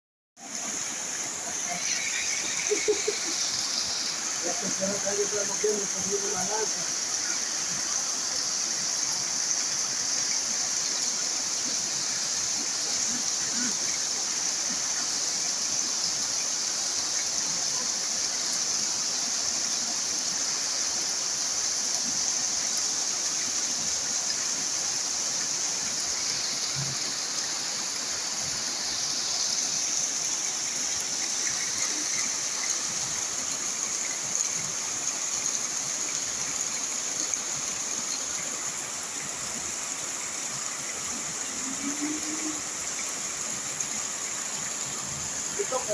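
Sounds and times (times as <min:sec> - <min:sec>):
heavy rain hissing: 0:00.4 - 0:45.9
rushing water: 0:00.4 - 0:45.9.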